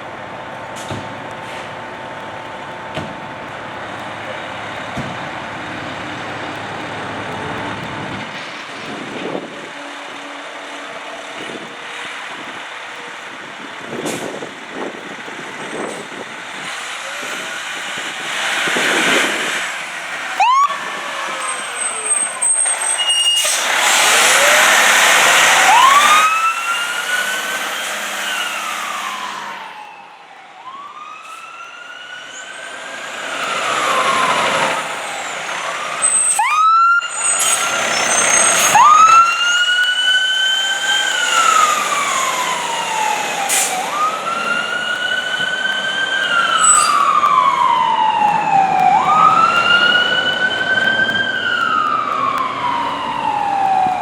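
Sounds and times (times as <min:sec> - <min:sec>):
fire truck sirens wailing: 0:00.0 - 0:54.0
truck noise rushing: 0:00.0 - 0:54.0.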